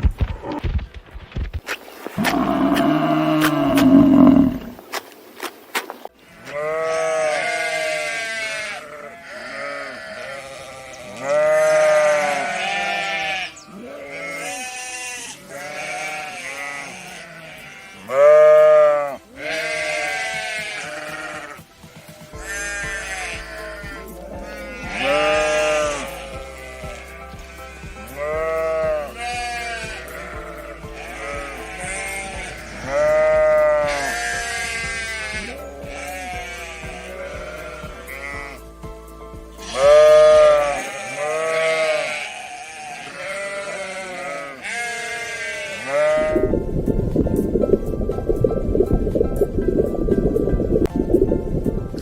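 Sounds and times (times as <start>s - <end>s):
animals bleating: 2.1s - 4.8s, 6.2s - 38.7s, 39.6s - 46.6s.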